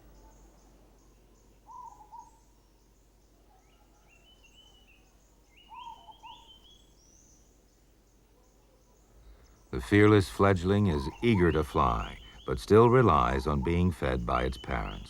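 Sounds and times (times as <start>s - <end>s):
low bird call: 0.0s - 2.8s, 3.5s - 7.5s, 9.7s - 15.0s
bird chirping phrases: 0.0s - 15.0s
faint high twittering: 0.0s - 15.0s.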